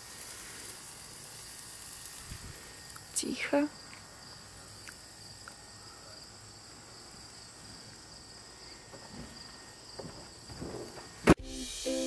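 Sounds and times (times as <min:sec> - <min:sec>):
crickets trilling: 0:00.0 - 0:11.2.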